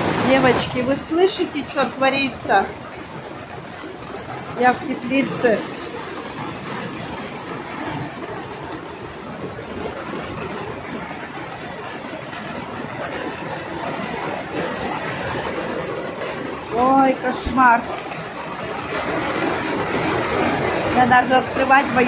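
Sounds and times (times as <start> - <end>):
heavy rain on plastic roof: 0.0 - 22.0.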